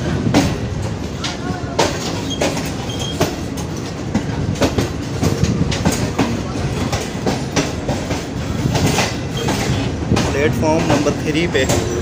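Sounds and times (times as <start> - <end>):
train wheels clacking over joints: 0.0 - 12.0.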